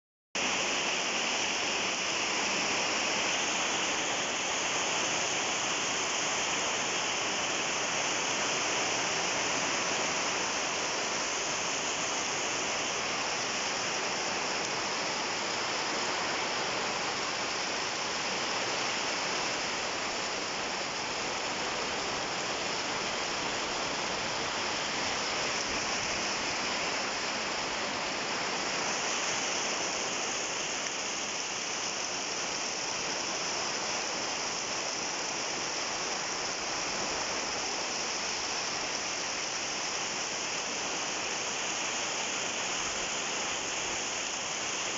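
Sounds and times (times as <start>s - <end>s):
heavy rain: 0.4s - 44.9s.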